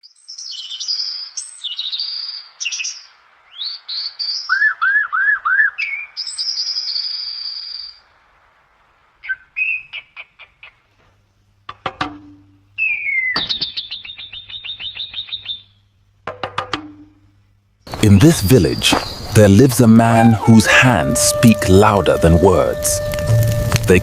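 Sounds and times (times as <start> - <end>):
songbirds chirping and trilling: 0.0 - 8.2, 9.2 - 11.5, 12.2 - 16.1, 17.9 - 24.0.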